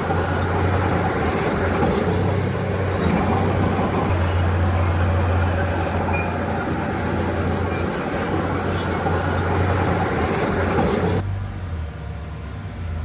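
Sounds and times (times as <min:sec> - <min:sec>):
high squeaks and clinks: 0:00.0 - 0:11.2
diesel machinery engine drone: 0:00.0 - 0:13.0.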